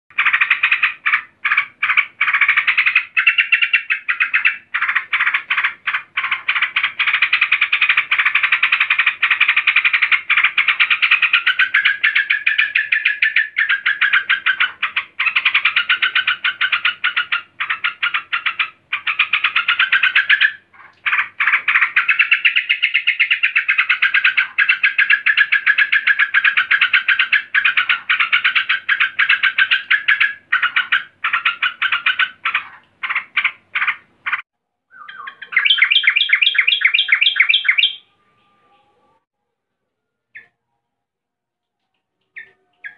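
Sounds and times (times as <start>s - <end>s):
bird chattering calls: 0.1s - 38.0s.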